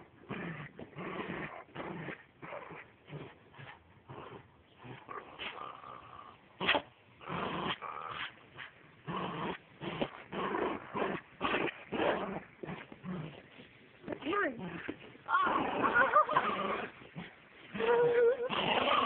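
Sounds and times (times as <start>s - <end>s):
small dog growling: 0.0s - 19.0s.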